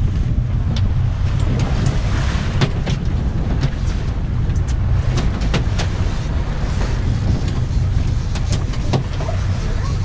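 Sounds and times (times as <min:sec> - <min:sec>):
wind and water rumble: 0:00.0 - 0:10.0.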